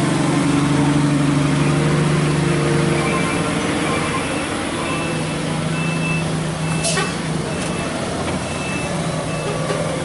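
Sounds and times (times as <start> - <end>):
diesel engine running at low revs: 0.0 - 10.0.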